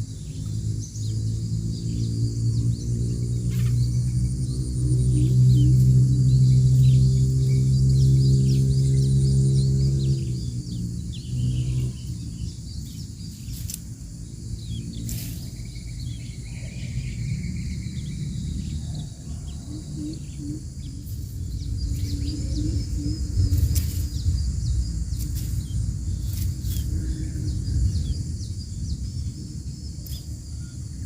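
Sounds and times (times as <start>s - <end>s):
insect drone: 0.0s - 31.0s
low rumble: 0.0s - 31.0s.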